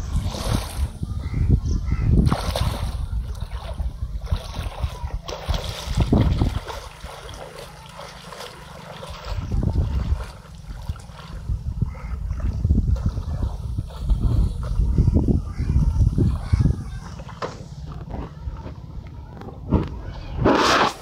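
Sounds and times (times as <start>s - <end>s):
wind rumbling on microphone: 0.0s - 7.7s, 8.9s - 21.0s
water splashing and sloshing: 0.0s - 21.0s.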